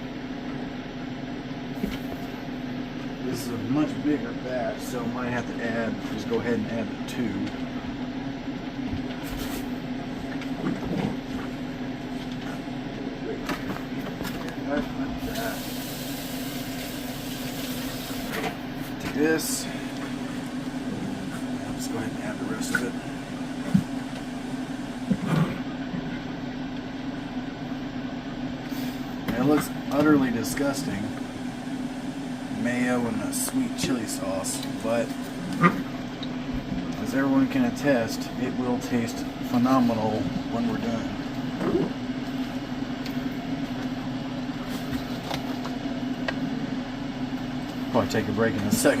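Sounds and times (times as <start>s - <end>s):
mechanical hum: 0.0s - 49.0s.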